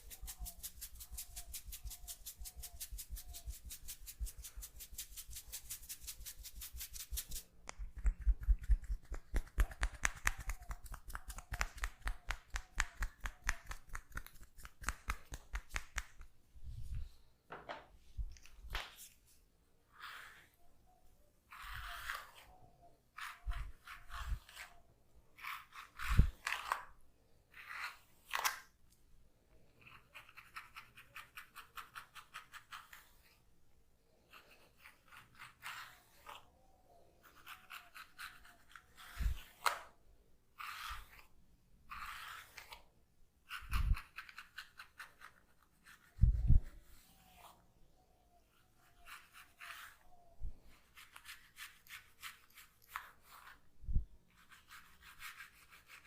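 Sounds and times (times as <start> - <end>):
comb scratching through hair: 0.0 - 16.3, 21.5 - 28.7, 29.8 - 33.4, 34.3 - 36.5, 37.2 - 40.0, 40.6 - 47.6, 48.5 - 53.7, 54.3 - 56.0.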